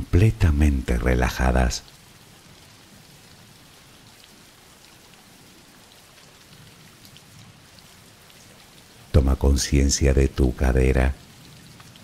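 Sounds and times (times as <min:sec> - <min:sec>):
soft rain pattering: 0:00.0 - 0:12.0.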